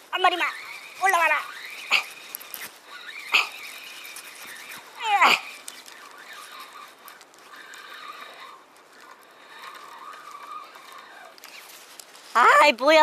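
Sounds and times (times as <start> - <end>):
fishing reel winding: 0.0 - 12.5.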